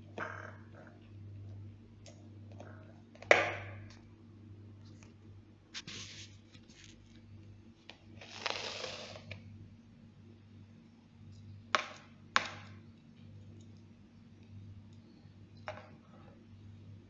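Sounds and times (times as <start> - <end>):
low steady hum: 0.0 - 8.4, 9.0 - 17.0.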